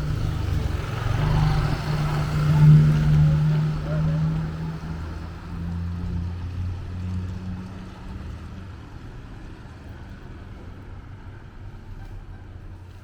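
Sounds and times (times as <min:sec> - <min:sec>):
background traffic noise: 0:00.0 - 0:13.0
vehicle engine hum passing: 0:00.0 - 0:13.0.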